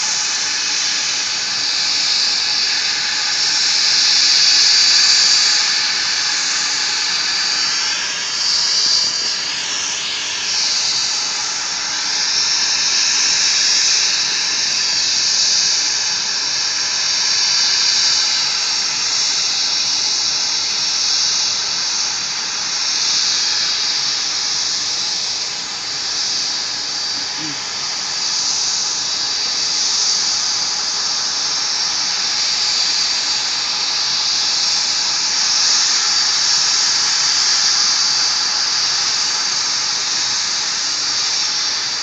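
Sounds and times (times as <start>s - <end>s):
jet turbine whine: 0.0s - 42.0s.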